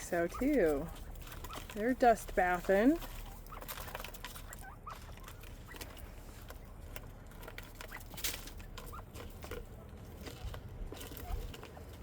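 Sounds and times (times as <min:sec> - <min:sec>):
quail chirping softly: 0:00.0 - 0:10.0, 0:11.1 - 0:11.8
birds dust bathing in dry soil: 0:00.0 - 0:12.0.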